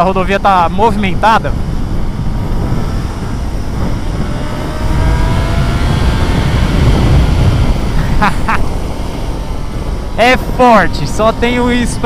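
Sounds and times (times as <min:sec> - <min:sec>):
wind rush on microphone: 0:00.0 - 0:12.0
motorcycle engine accelerating: 0:01.6 - 0:12.0.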